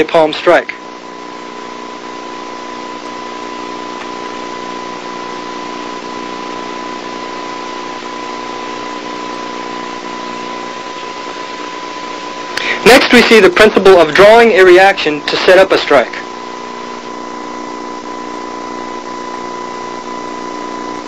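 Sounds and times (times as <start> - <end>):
high whine: 0.0 - 21.0
videotape hiss: 0.0 - 21.0.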